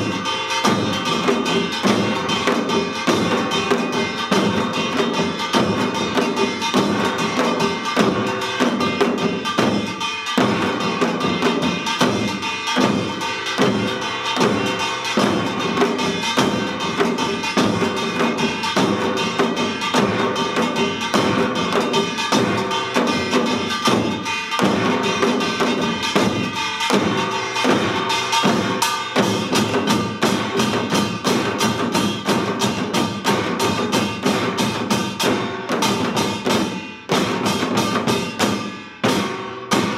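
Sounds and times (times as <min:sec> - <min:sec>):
drums struck in fast patterns: 0:00.0 - 0:39.9
metallic ringing of gongs: 0:00.0 - 0:39.9.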